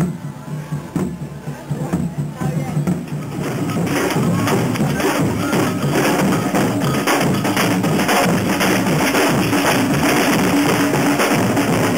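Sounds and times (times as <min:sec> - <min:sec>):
deep bass drum strokes: 0:00.0 - 0:11.9
street band drumming: 0:00.0 - 0:11.9.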